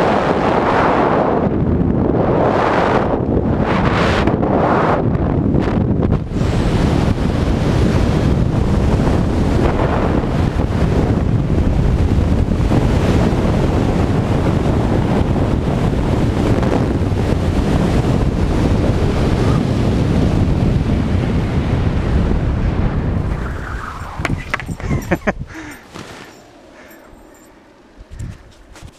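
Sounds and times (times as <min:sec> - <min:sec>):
wind rushing over microphone: 0:00.0 - 0:28.9.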